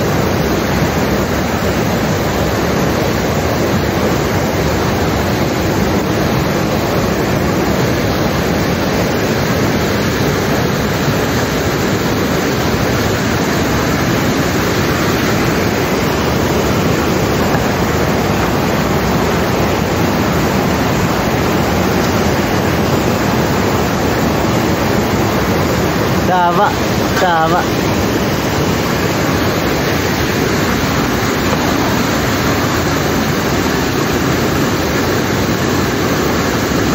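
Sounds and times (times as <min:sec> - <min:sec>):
water rushing: 0:00.0 - 0:36.9.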